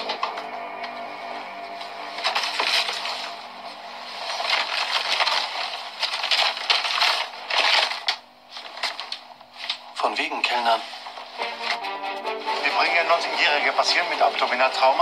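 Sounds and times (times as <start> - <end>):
paper envelope rustling: 1.8 - 11.8, 12.4 - 15.0.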